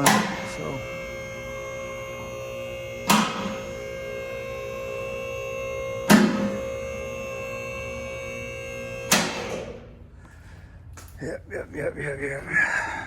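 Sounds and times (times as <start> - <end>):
hydraulic pump humming: 0.0 - 11.2.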